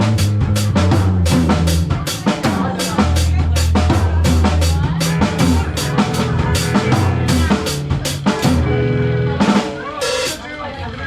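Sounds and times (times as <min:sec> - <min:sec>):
low bass notes: 0:00.0 - 0:09.6
steady drum beat: 0:00.0 - 0:10.5
live band playing loud: 0:00.0 - 0:10.7.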